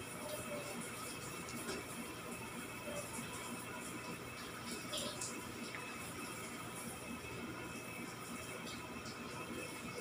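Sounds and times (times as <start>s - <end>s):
faint background music or tv: 0.0s - 10.0s.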